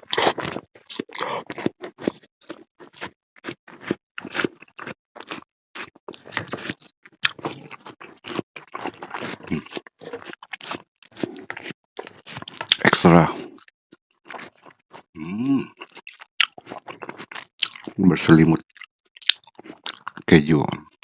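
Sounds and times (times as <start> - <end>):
person chewing crunchy food: 0.0 - 18.0, 18.6 - 21.0.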